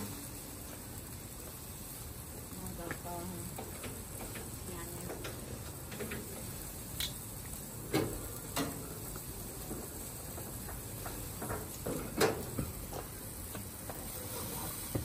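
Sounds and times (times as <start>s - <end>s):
fish grilling: 0.0s - 15.0s
fire pops and clicks: 0.6s - 15.0s.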